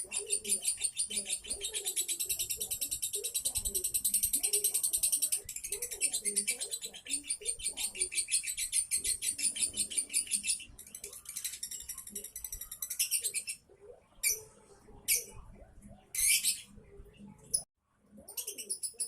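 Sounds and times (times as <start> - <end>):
lovebird chirping: 0.0 - 19.0.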